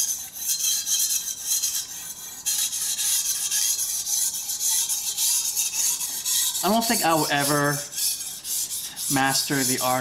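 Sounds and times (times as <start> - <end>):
knife scraping on whetstone: 0.0 - 10.0.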